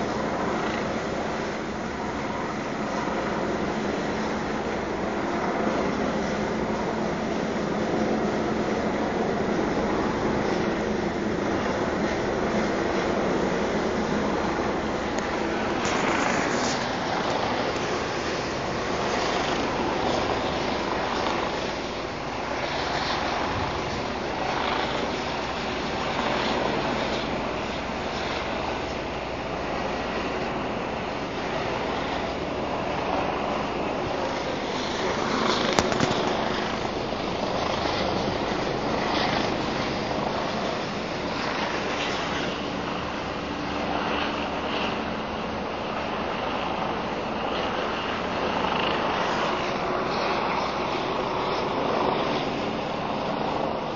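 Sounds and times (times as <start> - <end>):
helicopter rumbling roar: 0.0 - 53.9.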